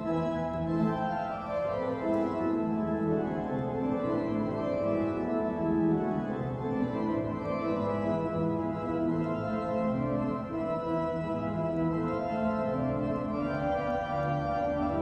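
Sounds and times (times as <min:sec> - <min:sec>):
pipe organ chords: 0:00.0 - 0:15.0.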